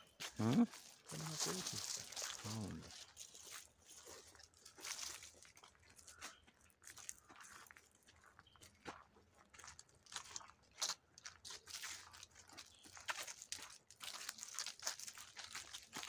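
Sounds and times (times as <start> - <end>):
footsteps crunching dry leaves: 0.0 - 16.0.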